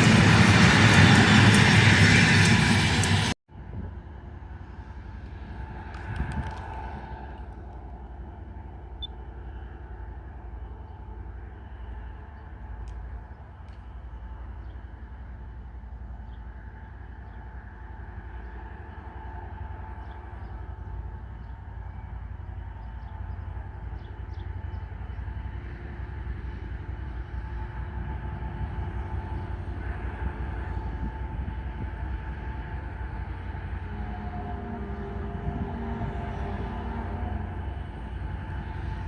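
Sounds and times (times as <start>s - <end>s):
freight train rumbling: 0.0s - 39.0s.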